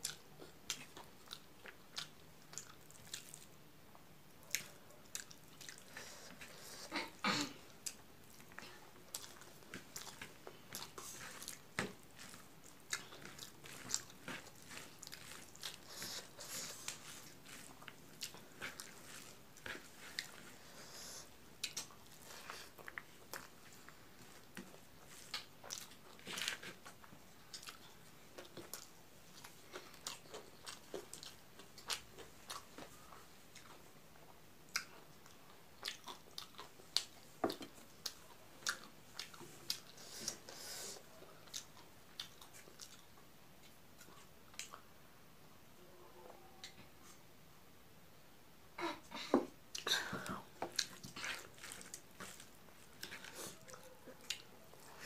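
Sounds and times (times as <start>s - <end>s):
wet chewing and mouth smacks: 0.0s - 3.6s, 4.4s - 6.6s, 7.7s - 20.6s, 21.6s - 40.6s, 41.4s - 44.9s, 50.5s - 55.0s.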